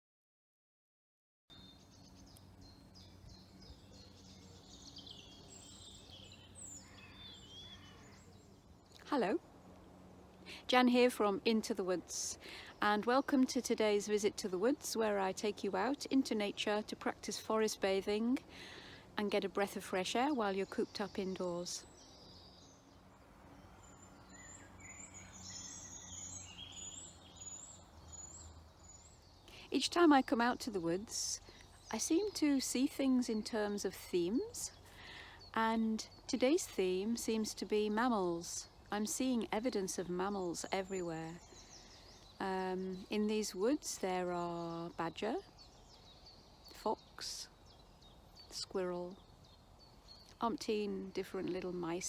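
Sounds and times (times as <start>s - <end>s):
low steady hum: 1.5s - 52.0s.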